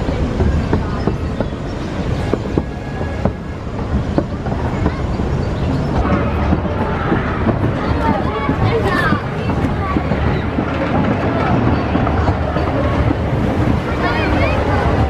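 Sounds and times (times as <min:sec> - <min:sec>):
roller coaster train rumbling: 0:00.0 - 0:15.0
wheels clattering: 0:00.0 - 0:15.0.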